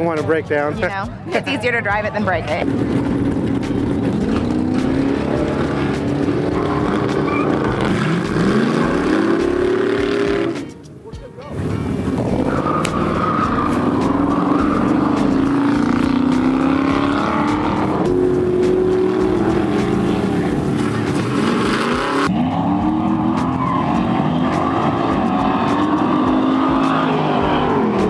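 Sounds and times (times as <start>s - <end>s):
racing car engines revving: 1.4s - 10.8s, 11.5s - 28.0s.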